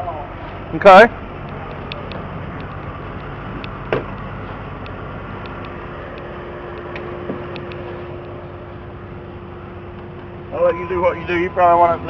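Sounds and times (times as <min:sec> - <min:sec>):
steady whine: 0:00.0 - 0:12.0
truck engine idling: 0:00.0 - 0:12.0.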